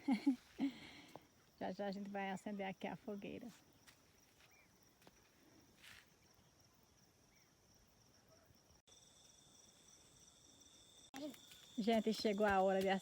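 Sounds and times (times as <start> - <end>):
crickets chirring: 0.1 - 13.0.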